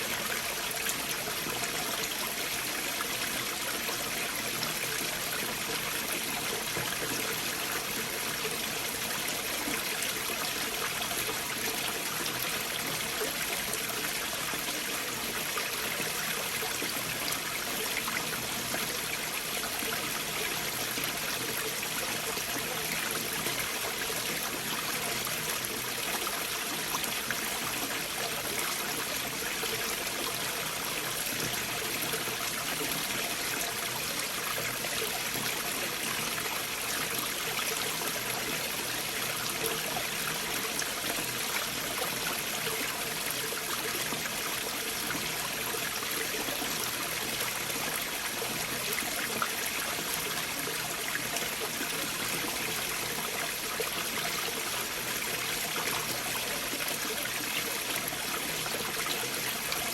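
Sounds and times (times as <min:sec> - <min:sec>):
stream flowing between boulders: 0:00.0 - 0:59.9.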